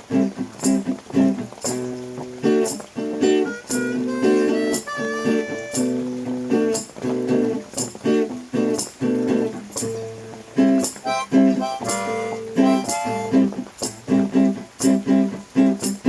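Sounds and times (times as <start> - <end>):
guitar chords strummed: 0.0 - 16.0
picked guitar notes: 0.0 - 16.0.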